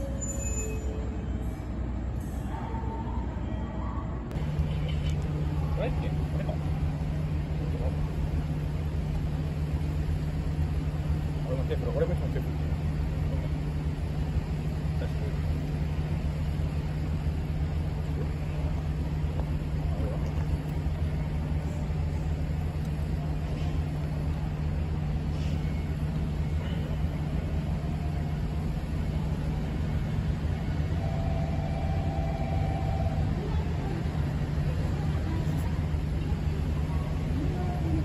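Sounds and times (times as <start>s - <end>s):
low mechanical hum: 0.0s - 38.0s.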